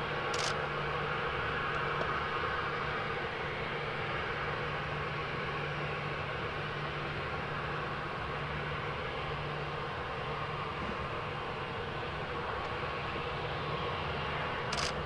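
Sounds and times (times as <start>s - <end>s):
jet engines idling: 0.0s - 15.0s.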